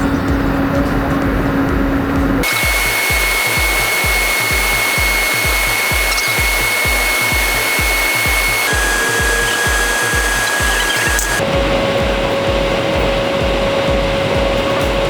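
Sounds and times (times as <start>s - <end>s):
background music with low beat: 0.0s - 15.0s
cooling fans whirring: 0.0s - 15.0s.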